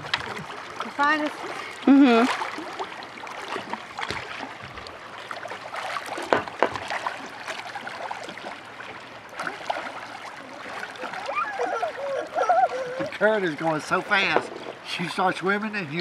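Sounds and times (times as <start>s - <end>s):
water lapping and sloshing: 0.0s - 16.0s
water splashes: 0.0s - 16.0s.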